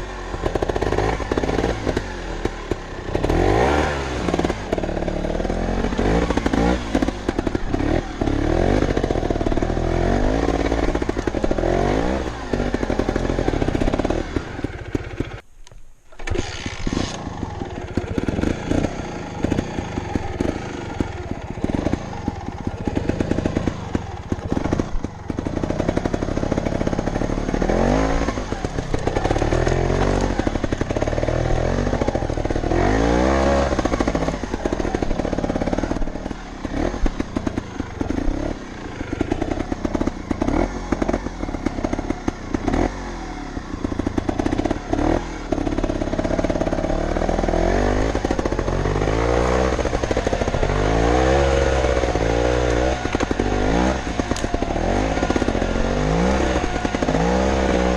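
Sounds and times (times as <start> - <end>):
motorcycle engine revving: 0.0 - 15.5, 16.1 - 57.9
motorcycle rattling: 0.0 - 57.9.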